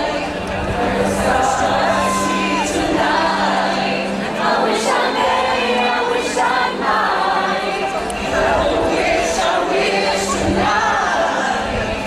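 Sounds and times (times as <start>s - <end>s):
choir singing: 0.0s - 12.0s
music: 0.0s - 12.0s.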